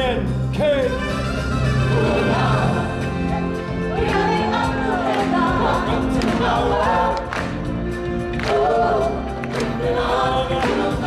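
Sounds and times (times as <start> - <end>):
backing music: 0.0 - 11.0
group singing in harmony: 1.6 - 11.0.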